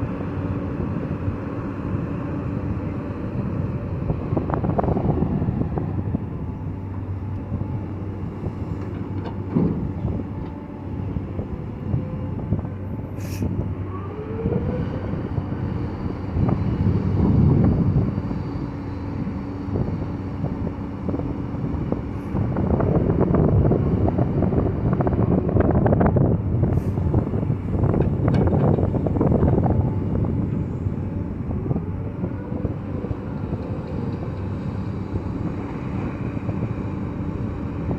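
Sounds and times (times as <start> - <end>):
diesel engine under load: 0.0 - 37.9.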